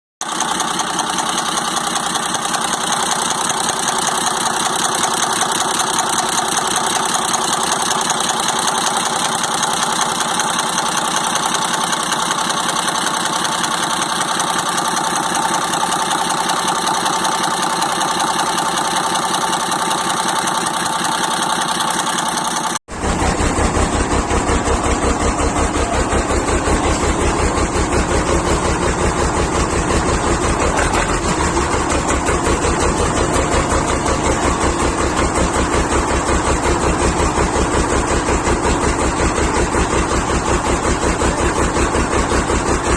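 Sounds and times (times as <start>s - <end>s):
truck diesel engine idling: 0.2s - 42.9s.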